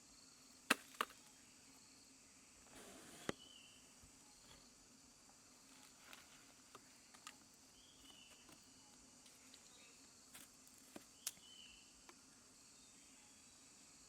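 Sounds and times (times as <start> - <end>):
forest insects chorus: 0.0 - 14.0.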